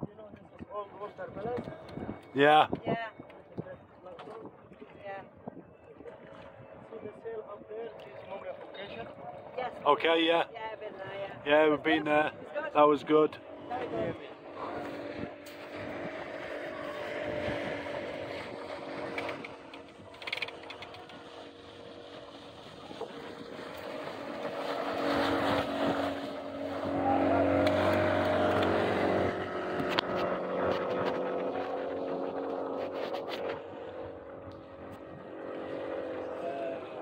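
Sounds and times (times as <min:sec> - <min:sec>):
boat engine passing: 0:00.6 - 0:37.0.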